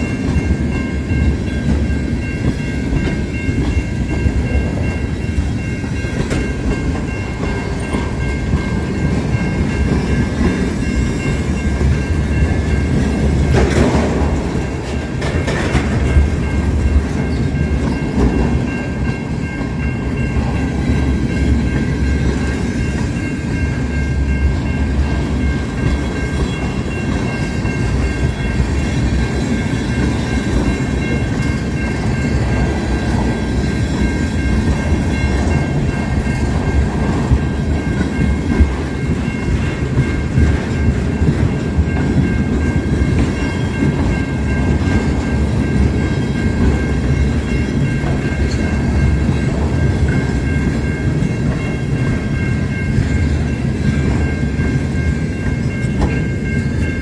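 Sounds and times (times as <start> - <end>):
level crossing warning bell: 0.0 - 57.0
train wheels rumbling on rails: 0.0 - 57.0.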